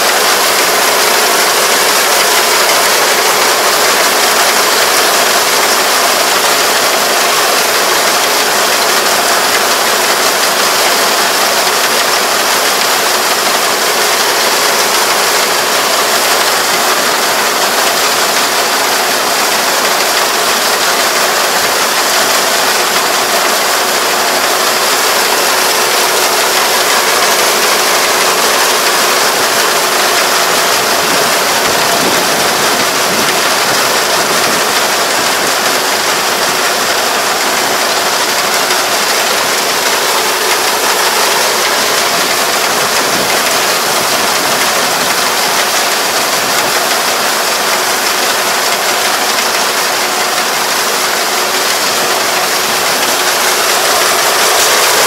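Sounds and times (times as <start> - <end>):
combine harvester clattering: 0.0 - 55.0.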